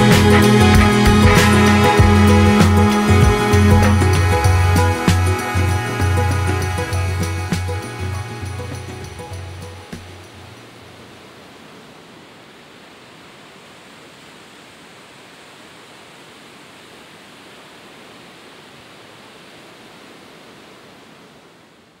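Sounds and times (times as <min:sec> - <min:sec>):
ocean surf on beach: 0:00.0 - 0:22.0.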